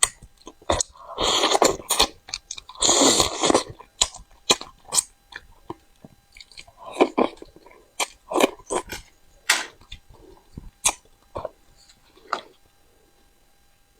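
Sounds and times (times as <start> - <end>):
person chewing food: 0.0 - 12.8.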